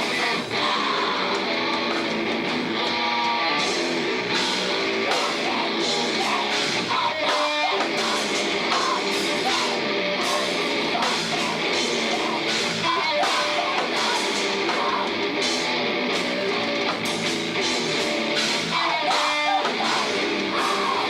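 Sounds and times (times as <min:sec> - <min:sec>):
drum kit: 0:00.0 - 0:21.0
electric guitars: 0:00.0 - 0:21.0.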